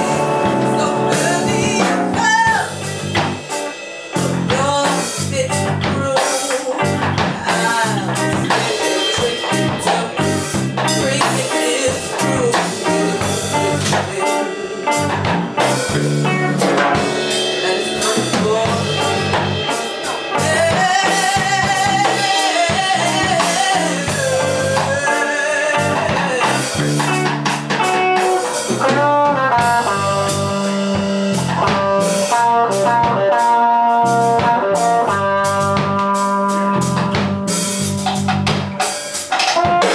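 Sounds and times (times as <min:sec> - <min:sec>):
bass: 0:00.0 - 0:39.9
blues band playing live: 0:00.0 - 0:39.9
drum kit: 0:00.0 - 0:39.9
wavering lead guitar: 0:00.0 - 0:39.9.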